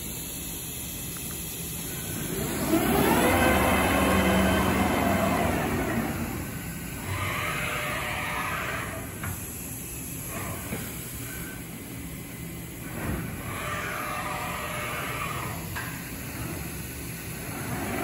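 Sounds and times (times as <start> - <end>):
low machine hum: 0.0 - 18.0
cnc router drives running: 0.9 - 18.0.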